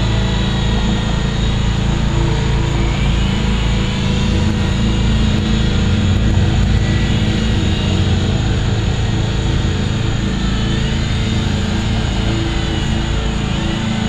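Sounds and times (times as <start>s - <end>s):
toy helicopter motors and rotors: 0.0s - 14.0s.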